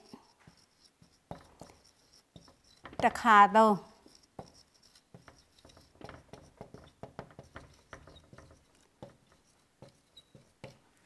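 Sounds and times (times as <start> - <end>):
marker writing on whiteboard: 0.0 - 11.0.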